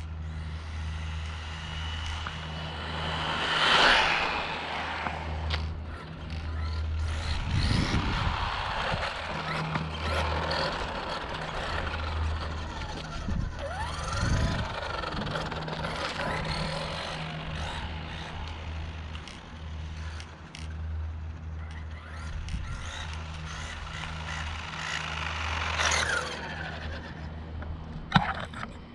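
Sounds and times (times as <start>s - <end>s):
electric motor whining: 0.0s - 28.6s
patchy low hum: 0.0s - 28.9s
tyres running over asphalt: 0.2s - 28.8s.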